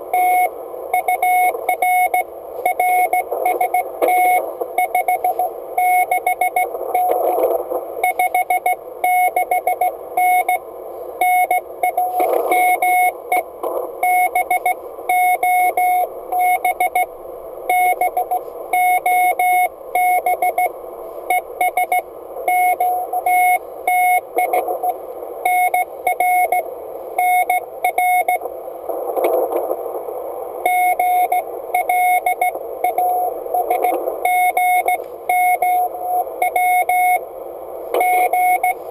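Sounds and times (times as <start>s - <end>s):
receiver band hiss: 0.0s - 38.9s
morse code tone: 0.1s - 28.4s, 30.7s - 37.3s, 37.9s - 38.9s.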